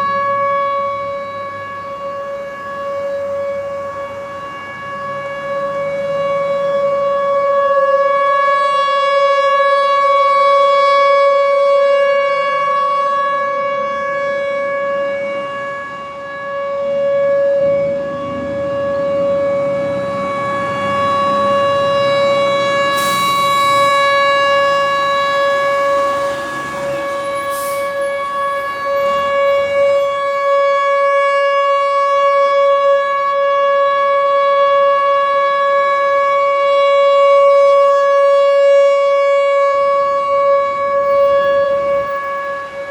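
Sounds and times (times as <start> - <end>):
tornado warning siren steady tone: 0.0 - 42.9.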